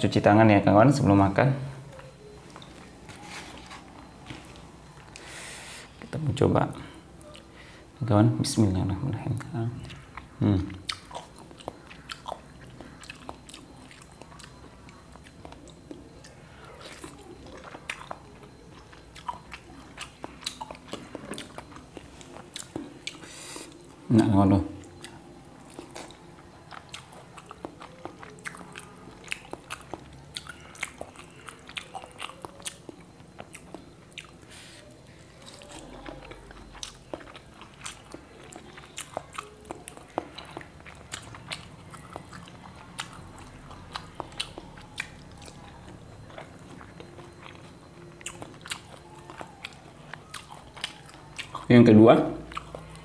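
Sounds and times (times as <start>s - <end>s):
chewing and biting food: 9.1s - 53.0s.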